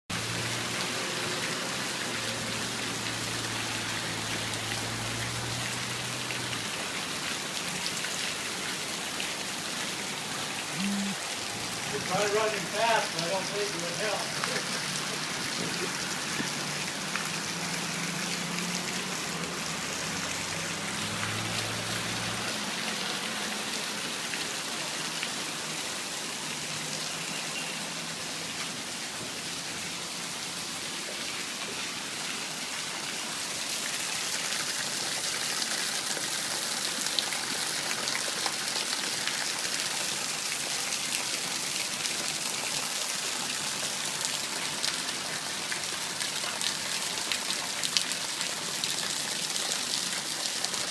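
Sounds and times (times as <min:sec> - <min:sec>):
rain pattering and hissing: 0:00.1 - 0:50.9.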